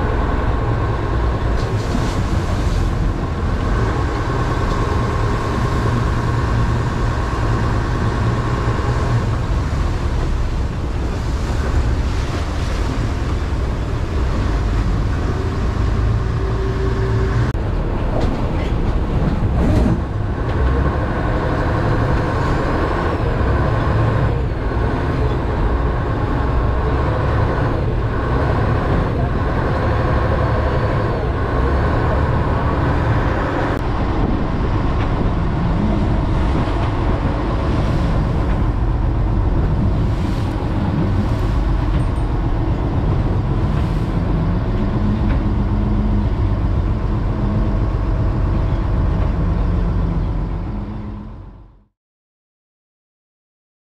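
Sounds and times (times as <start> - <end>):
water rushing along hull: 0.0 - 51.8
boat engine running: 0.0 - 51.9.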